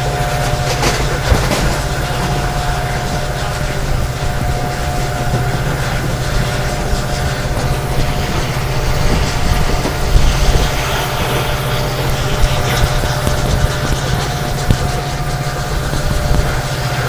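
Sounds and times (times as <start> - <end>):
diesel locomotive engine drone: 0.0 - 17.0
train wheels on rails: 0.0 - 17.0.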